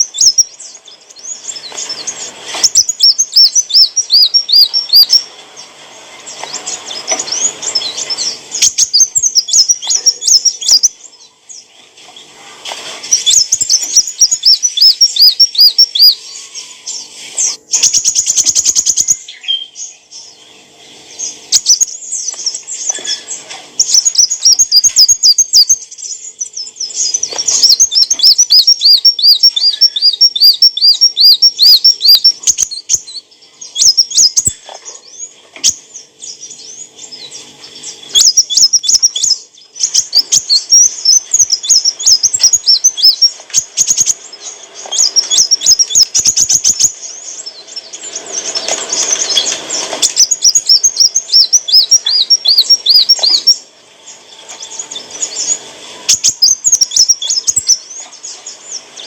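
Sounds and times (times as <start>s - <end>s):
sunbird chirping and trilling: 0.0s - 59.0s.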